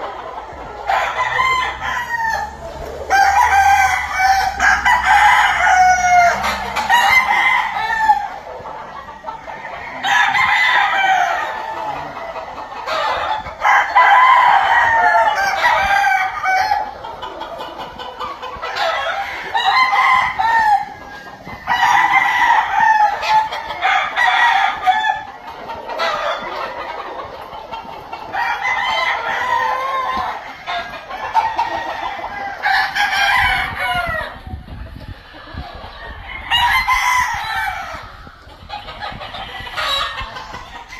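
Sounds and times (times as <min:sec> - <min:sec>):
roosters crowing: 0:00.0 - 0:40.9.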